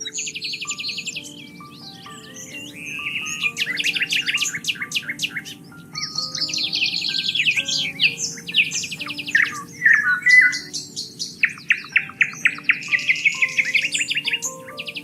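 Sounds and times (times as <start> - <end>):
soft held music notes: 0.0 - 15.0
songbirds singing: 0.0 - 15.0.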